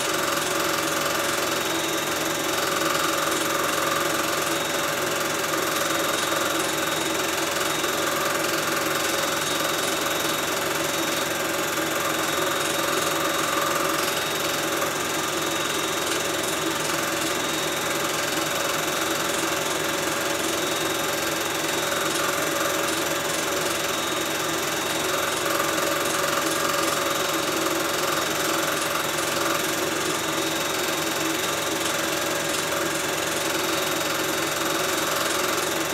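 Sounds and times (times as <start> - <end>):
film projector whirring and clattering: 0.0 - 35.9.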